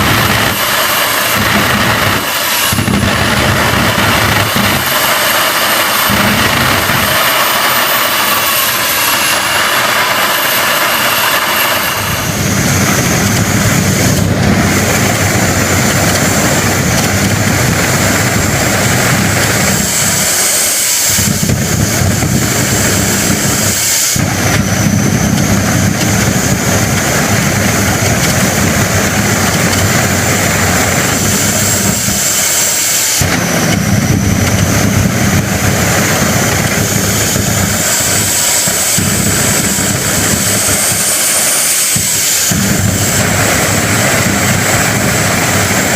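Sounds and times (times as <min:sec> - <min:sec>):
deep engine rumble: 0:00.0 - 0:45.9
high turbine whine: 0:00.0 - 0:45.9
jet engine roaring: 0:00.0 - 0:45.9.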